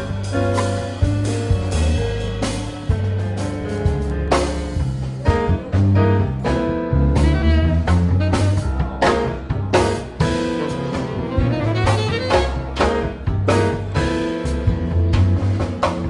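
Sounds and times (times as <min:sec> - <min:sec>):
blues band music: 0:00.0 - 0:16.0.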